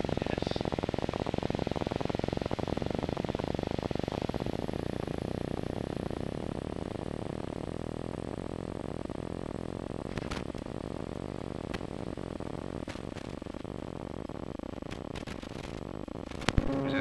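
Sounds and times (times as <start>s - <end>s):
light aircraft engine and propeller: 0.0s - 13.7s, 14.5s - 17.0s.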